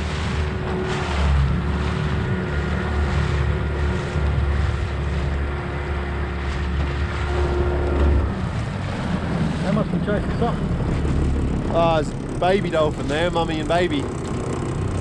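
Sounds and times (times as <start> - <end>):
outboard motor droning: 0.0 - 15.0
water rushing past: 0.0 - 15.0.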